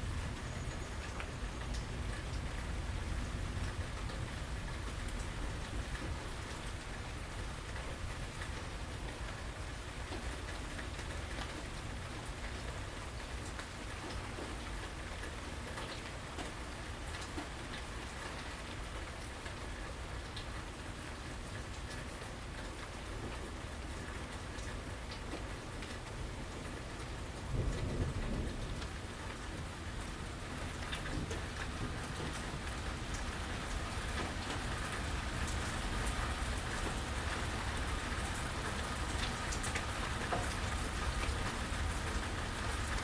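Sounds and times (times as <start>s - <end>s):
rain pattering on surfaces: 0.0s - 43.0s.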